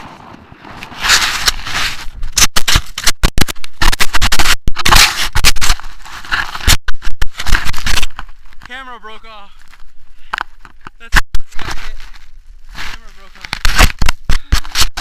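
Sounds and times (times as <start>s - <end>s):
snow scraping against camera: 0.0s - 15.0s.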